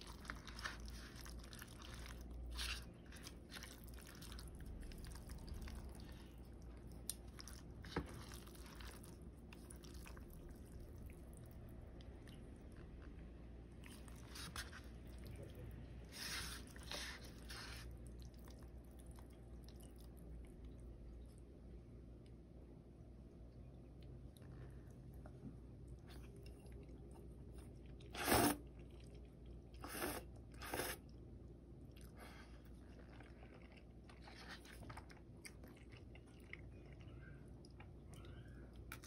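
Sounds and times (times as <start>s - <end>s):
wet squishing of noodles: 0.0s - 39.0s.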